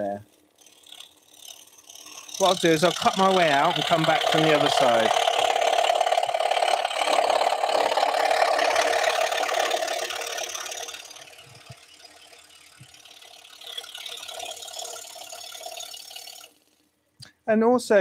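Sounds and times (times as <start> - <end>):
scroll saw cutting wood: 0.0 - 16.8.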